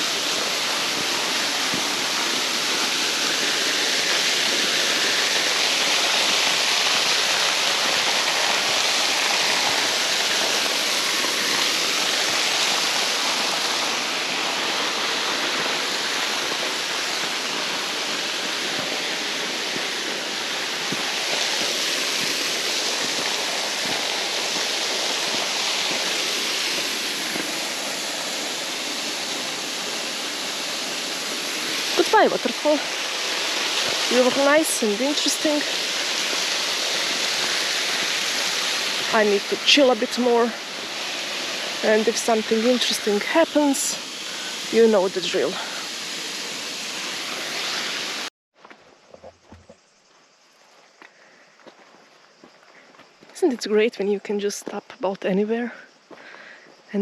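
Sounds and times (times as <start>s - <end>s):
waterfall rushing: 0.0s - 48.3s.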